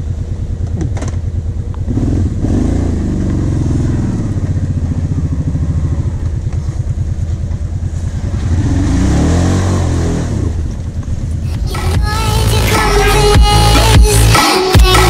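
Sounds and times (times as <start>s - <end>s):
atv engine chugging: 0.0s - 9.4s, 10.3s - 15.0s.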